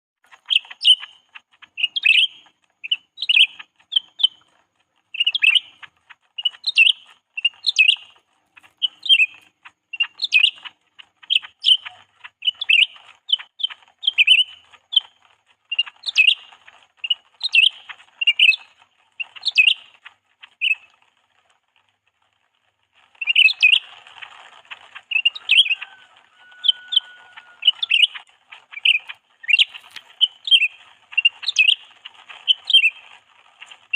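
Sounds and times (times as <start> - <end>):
songbird chirps: 0.2 - 33.9.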